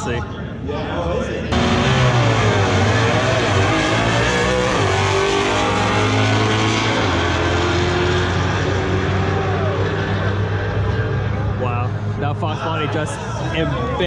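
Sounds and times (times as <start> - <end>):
racing car engine at full throttle: 1.5 - 14.0.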